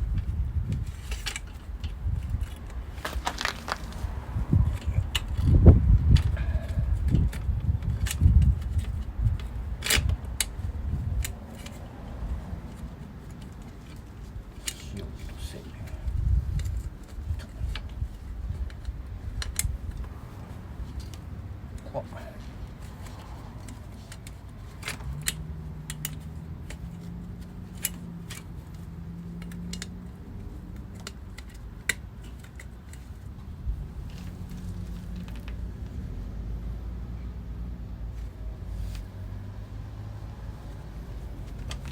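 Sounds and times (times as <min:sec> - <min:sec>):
light clicks and knocks of tools: 0:00.1 - 0:36.0, 0:38.1 - 0:41.9.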